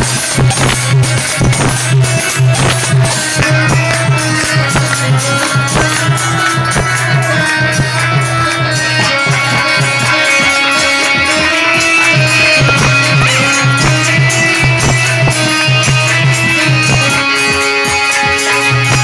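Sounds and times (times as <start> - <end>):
driving percussion beat: 0.0 - 19.0
electronic keyboard melody: 0.0 - 19.0.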